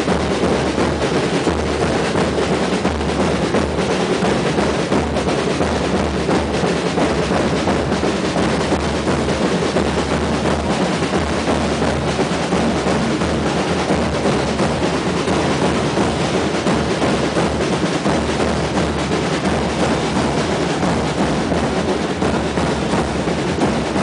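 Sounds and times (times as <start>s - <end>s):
bass drum: 0.0s - 24.0s
drum band playing: 0.0s - 24.0s.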